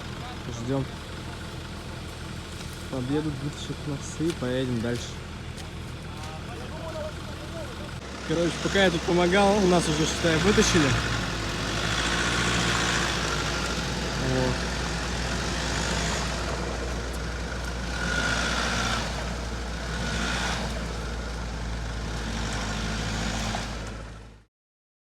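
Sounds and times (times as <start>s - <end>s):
engine running: 0.0s - 24.5s
outdoor noise: 0.0s - 24.5s.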